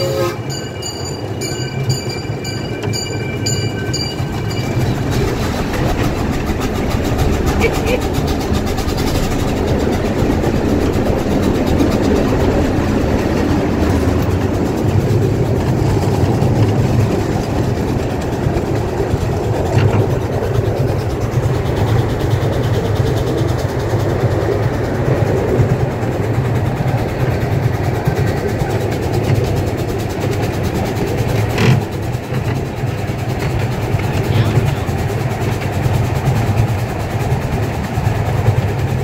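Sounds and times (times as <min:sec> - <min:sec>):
train wheels rumbling and clattering: 0:00.0 - 0:39.0.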